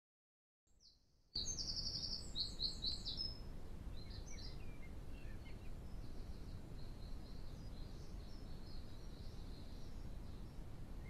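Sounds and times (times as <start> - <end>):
low outdoor background noise: 0.7 - 11.0
songbird singing: 0.7 - 11.0
bird chirps: 0.8 - 10.6.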